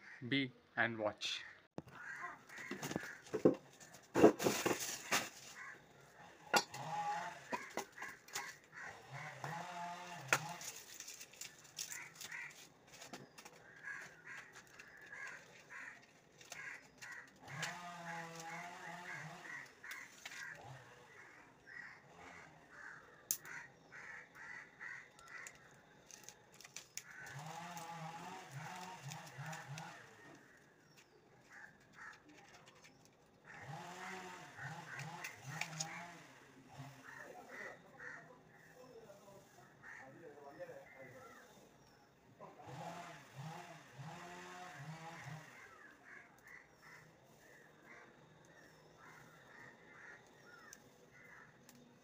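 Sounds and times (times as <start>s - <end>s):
drawn-out wavering animal calls: 5.4s - 52.0s.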